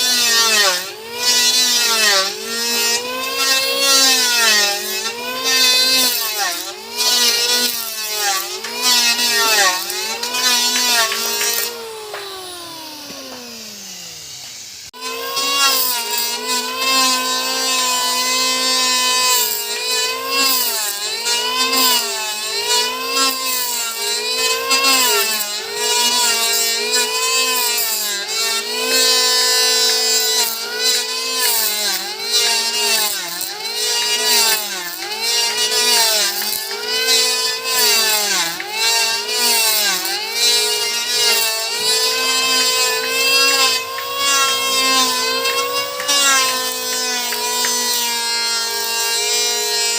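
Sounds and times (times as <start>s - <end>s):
electric planer cutting wood: 0.0s - 49.9s.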